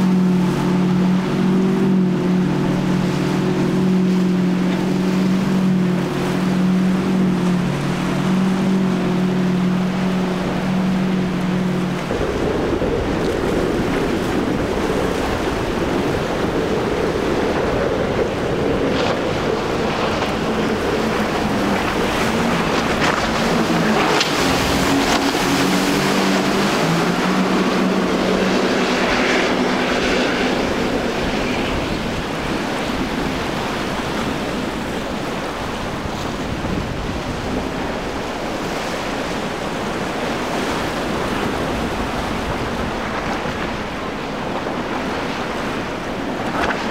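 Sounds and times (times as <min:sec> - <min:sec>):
motorboat engines droning: 0:00.0 - 0:46.9
waves: 0:00.0 - 0:46.9
wind on microphone: 0:00.0 - 0:46.9.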